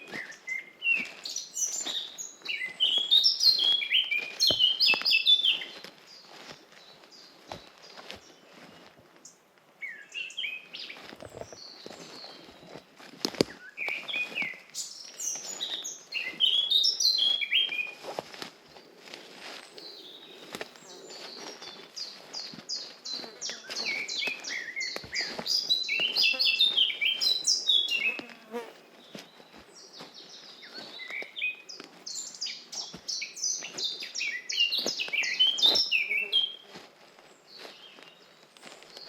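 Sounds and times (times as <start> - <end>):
footsteps on forest path: 0.0 - 39.0.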